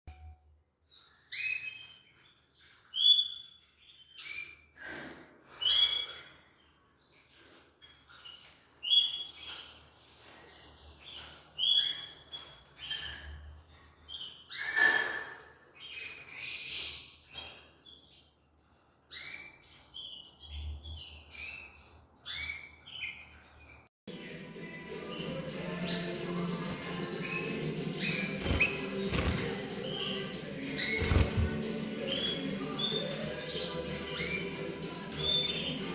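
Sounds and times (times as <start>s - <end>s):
canaries chirping: 0.8s - 35.9s.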